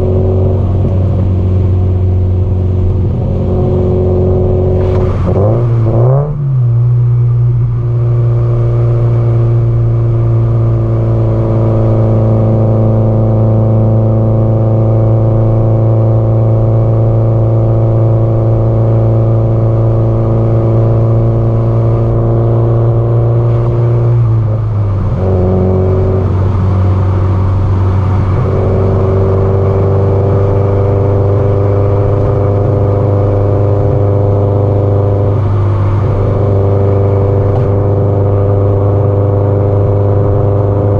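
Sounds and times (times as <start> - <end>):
car exhaust note cruising: 0.0 - 40.9.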